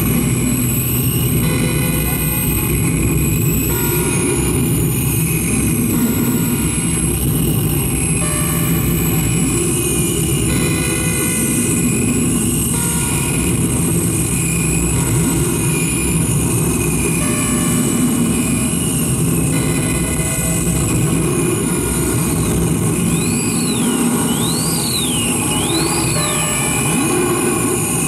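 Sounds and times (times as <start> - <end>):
high whining tone: 0.0 - 28.0
loud rumbling electronic drone: 0.0 - 28.0.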